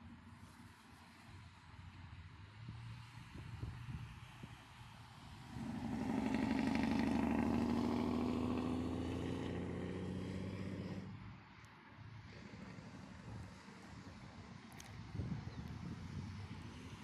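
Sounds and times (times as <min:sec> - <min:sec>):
highway traffic passing: 0:00.0 - 0:17.0.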